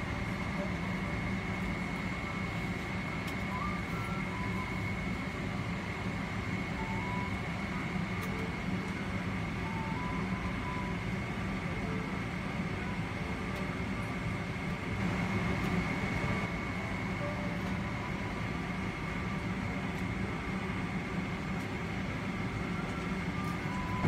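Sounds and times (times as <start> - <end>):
airliner cabin engine rush: 0.0 - 24.0
high steady whine: 0.0 - 24.0.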